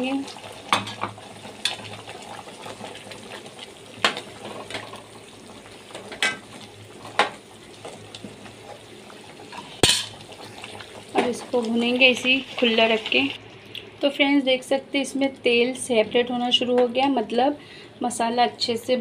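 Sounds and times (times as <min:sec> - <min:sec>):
gravy bubbling and sizzling: 0:00.0 - 0:16.3.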